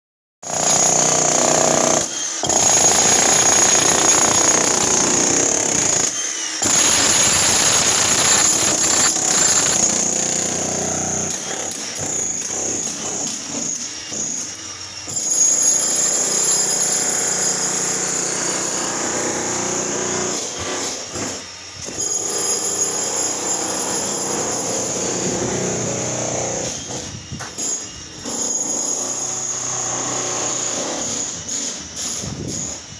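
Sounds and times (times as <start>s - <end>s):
demolition hammer breaking concrete: 0.5s - 32.8s.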